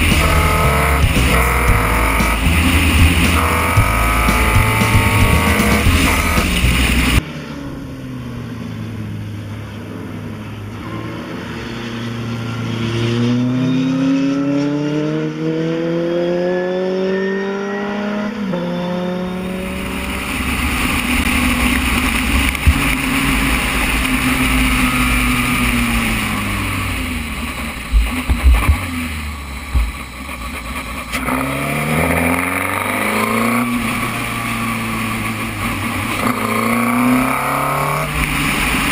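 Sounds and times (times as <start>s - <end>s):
race car engine revving: 0.0s - 7.6s, 10.8s - 38.9s.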